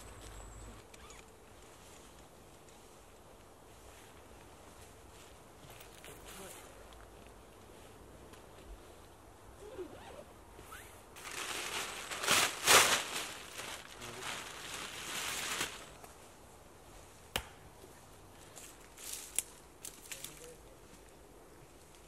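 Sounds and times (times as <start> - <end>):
canvas and dry leaves rustling: 0.0 - 22.0.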